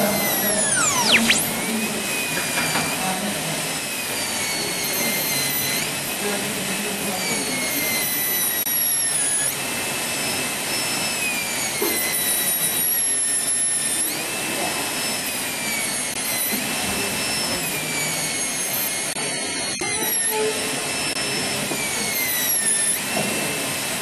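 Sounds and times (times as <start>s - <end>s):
dental drill whine and hiss: 0.0s - 2.0s, 2.6s - 24.0s.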